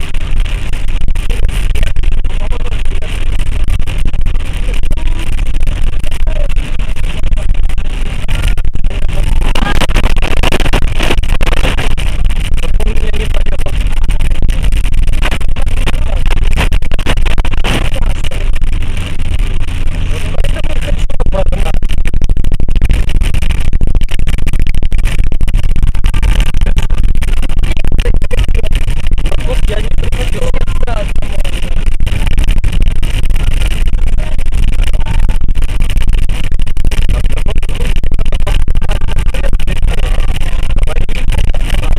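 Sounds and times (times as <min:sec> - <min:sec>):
heavy rain crackling: 0:00.0 - 0:41.9
low rumble: 0:00.0 - 0:41.9.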